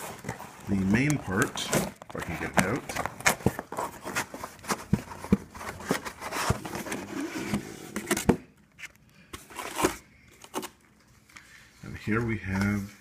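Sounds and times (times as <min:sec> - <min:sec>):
cardboard and foam rustling: 0:00.0 - 0:13.0.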